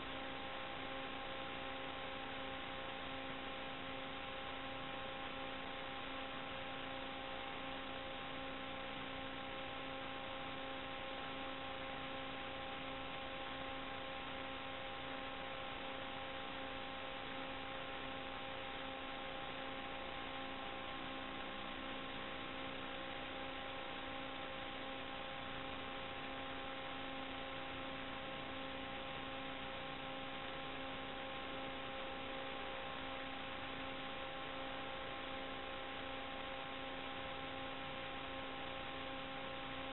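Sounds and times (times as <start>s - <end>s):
electrical hum: 0.0s - 39.9s
static hiss: 0.0s - 39.9s.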